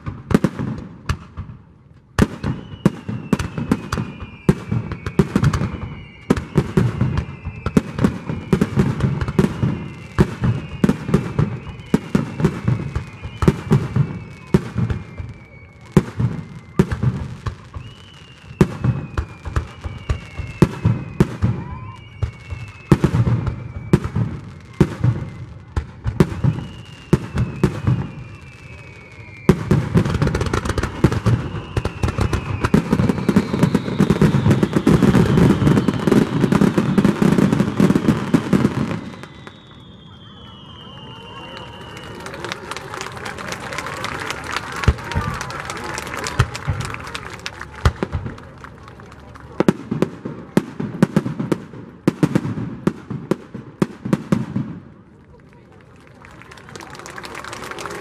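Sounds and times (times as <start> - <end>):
whistling firework shells: 2.1 - 54.8.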